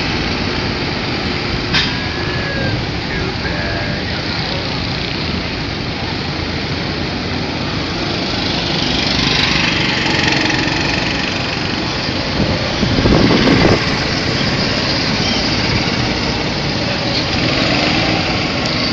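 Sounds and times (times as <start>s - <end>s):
go-kart engines droning: 0.0s - 18.9s.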